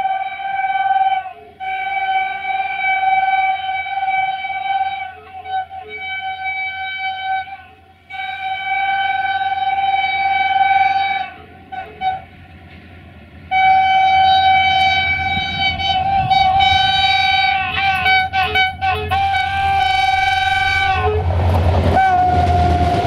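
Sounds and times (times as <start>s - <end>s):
locomotive horn blasts: 0.0s - 12.5s, 13.5s - 23.0s
train rumble: 0.0s - 23.0s.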